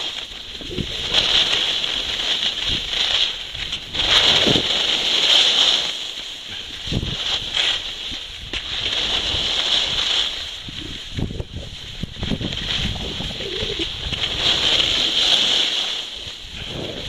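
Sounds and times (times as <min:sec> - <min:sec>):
wind rumble on microphone: 0:00.0 - 0:05.2, 0:06.4 - 0:17.0
skis scraping over snow: 0:00.0 - 0:17.0.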